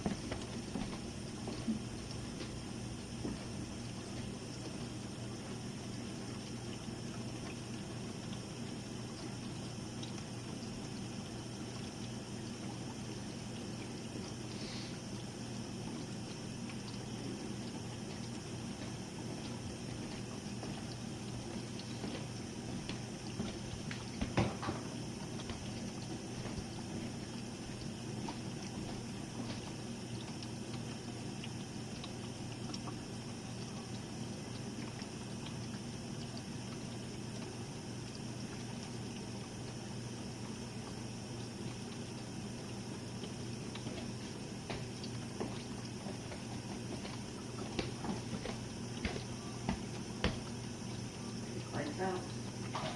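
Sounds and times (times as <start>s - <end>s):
dishwasher motor hum: 0.0s - 52.9s
water spraying and sloshing: 0.0s - 52.9s.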